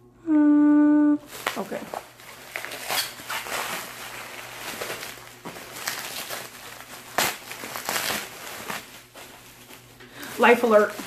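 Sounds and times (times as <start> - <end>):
packaging wrap crinkling: 1.3 - 11.0.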